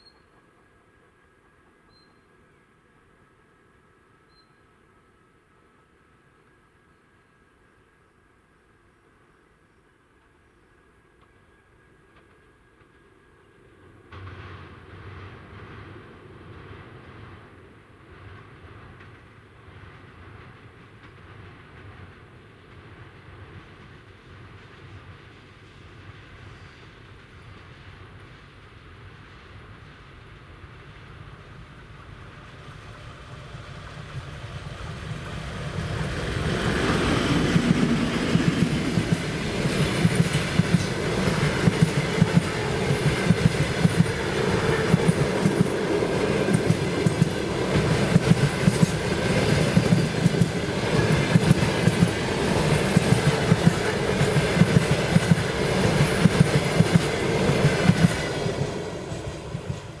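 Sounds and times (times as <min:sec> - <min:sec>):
passenger train passing: 0:10.8 - 1:00.0.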